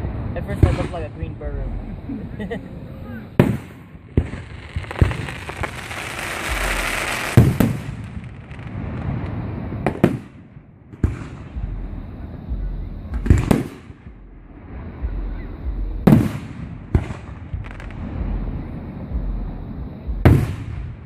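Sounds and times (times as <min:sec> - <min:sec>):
fireworks bursting with booms: 0:00.0 - 0:21.0
fireworks crackling hiss: 0:00.0 - 0:21.0.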